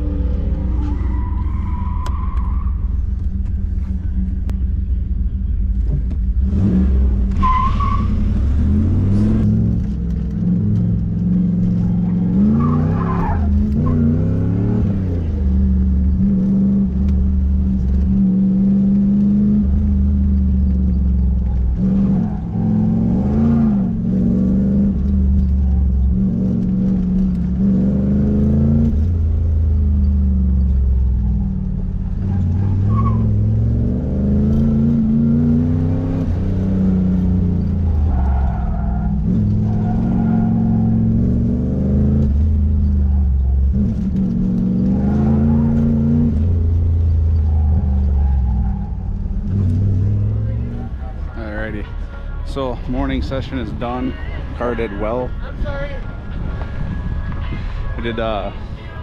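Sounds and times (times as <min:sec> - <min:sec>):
tire squeals: 0:00.0 - 0:04.0, 0:07.2 - 0:09.3, 0:11.6 - 0:18.4, 0:19.6 - 0:55.4
car engine revving: 0:00.0 - 0:59.0.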